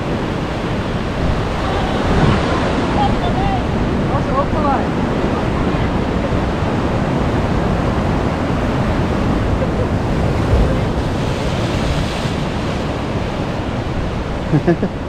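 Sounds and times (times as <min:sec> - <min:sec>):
surf breaking against rocks: 0:00.0 - 0:14.5
wave crashing: 0:00.0 - 0:15.0
wind buffeting microphone: 0:00.0 - 0:15.0.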